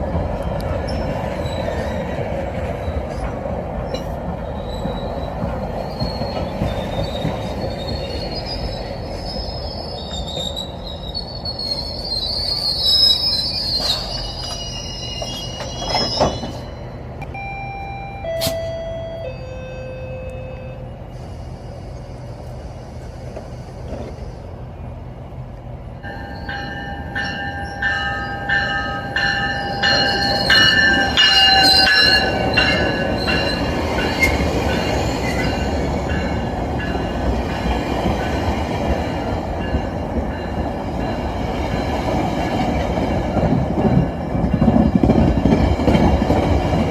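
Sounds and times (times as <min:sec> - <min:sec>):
train wheels squealing on rails: 0:00.4 - 0:24.8, 0:26.0 - 0:46.9.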